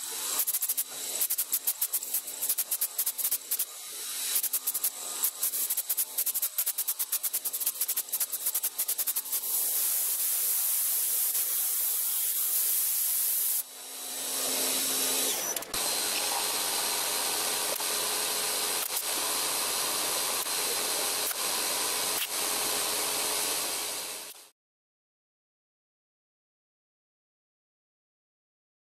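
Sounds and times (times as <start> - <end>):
milling machine cutting metal: 0.0 - 24.4.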